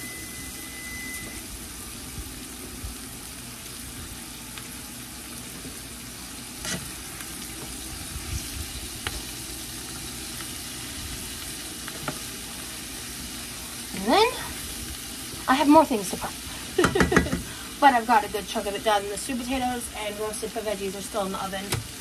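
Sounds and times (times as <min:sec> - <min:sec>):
beans sizzling in grease: 0:00.0 - 0:22.0.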